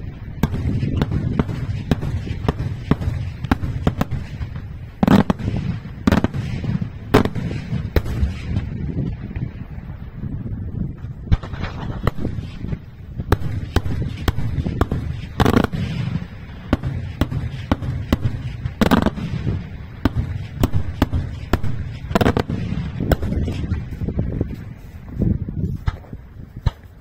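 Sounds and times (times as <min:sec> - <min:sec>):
fireworks bangs: 0:00.0 - 0:09.6, 0:10.8 - 0:27.0
loud firework blasts: 0:00.0 - 0:27.0.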